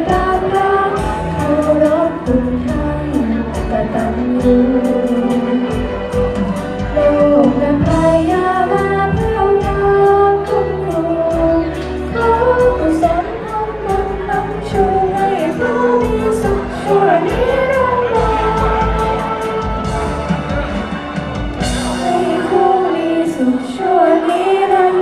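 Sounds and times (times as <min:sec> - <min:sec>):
woman singing: 0:00.0 - 0:20.8, 0:21.8 - 0:25.0
band with steady beat: 0:00.0 - 0:25.0.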